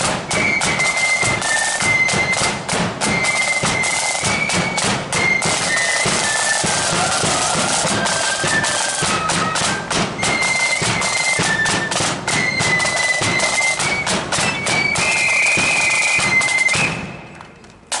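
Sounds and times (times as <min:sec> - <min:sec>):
side drum: 0:00.0 - 0:17.2
flutes playing melody: 0:00.0 - 0:17.4.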